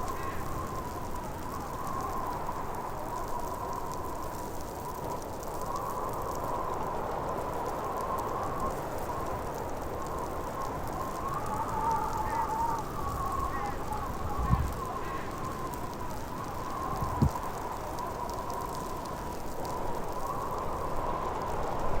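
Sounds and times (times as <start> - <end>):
blizzard wind howling: 0.0 - 22.0.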